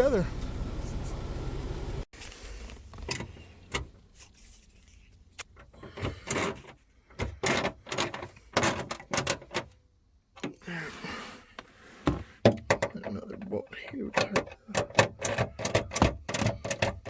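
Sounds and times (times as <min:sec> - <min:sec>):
parts and tools being handled: 0:02.2 - 0:10.6, 0:11.6 - 0:17.0.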